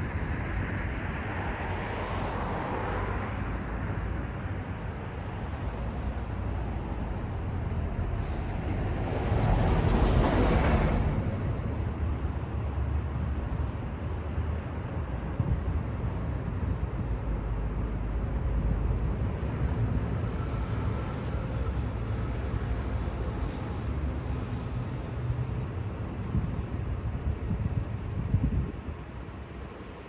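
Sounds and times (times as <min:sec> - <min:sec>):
low rumble of traffic: 0:00.0 - 0:30.0.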